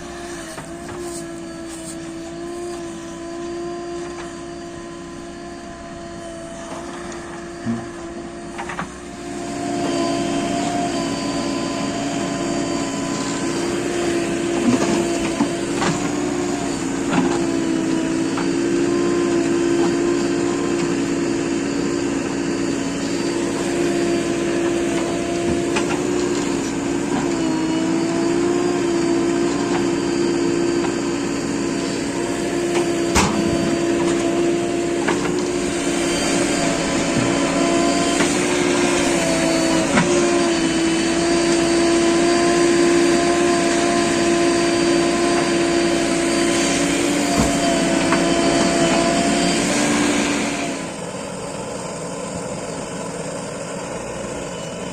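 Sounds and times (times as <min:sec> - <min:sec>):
diesel engine running under load: 0:00.0 - 0:41.6, 0:42.2 - 0:54.9.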